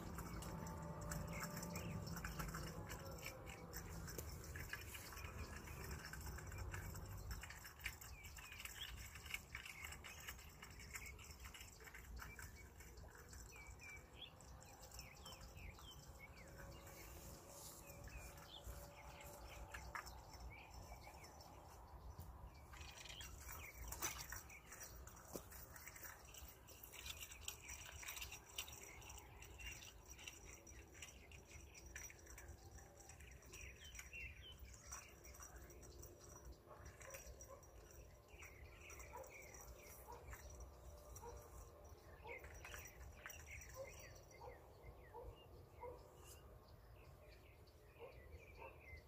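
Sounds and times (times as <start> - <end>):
faint small bird chirps: 0.0 - 49.0.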